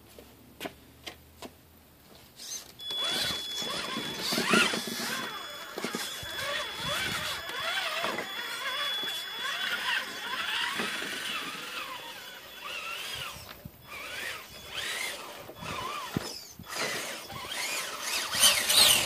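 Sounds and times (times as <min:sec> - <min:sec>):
electric motor and drivetrain whining: 0:02.4 - 0:19.0
steady high-pitched whine: 0:02.4 - 0:19.0.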